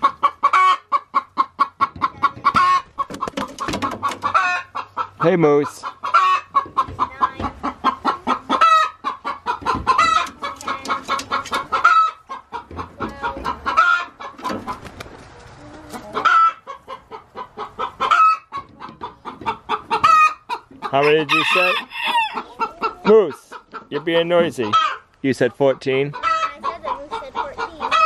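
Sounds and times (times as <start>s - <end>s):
chickens clucking and cackling: 0.0s - 28.0s.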